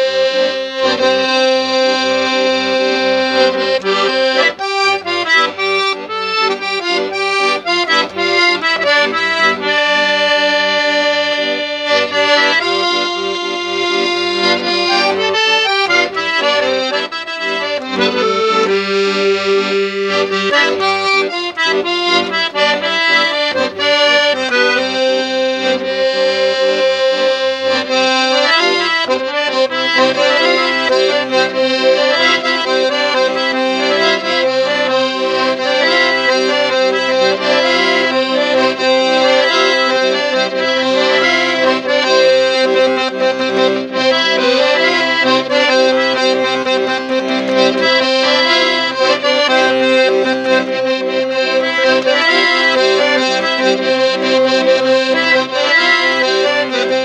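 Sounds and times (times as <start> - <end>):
accordion melody: 0.0 - 57.0.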